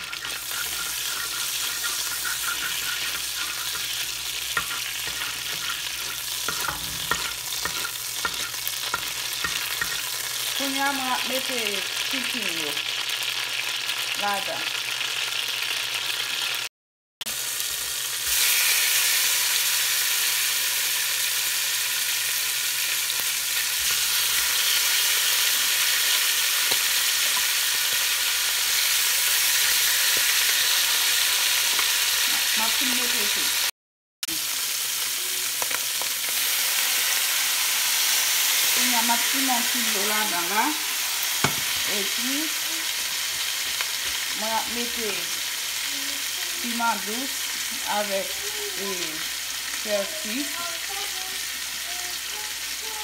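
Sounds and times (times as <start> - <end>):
chicken sizzling in hot oil: 0.0 - 16.7, 17.3 - 53.0.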